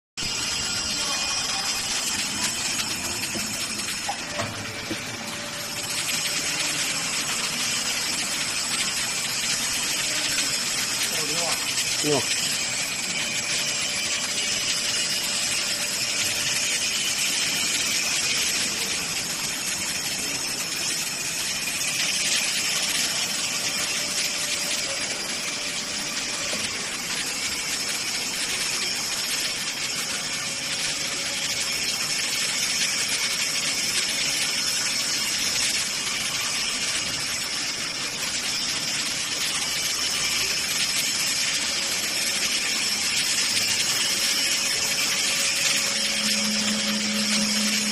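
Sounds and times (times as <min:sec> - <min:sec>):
hydraulic pump motor humming: 0:00.2 - 0:47.9.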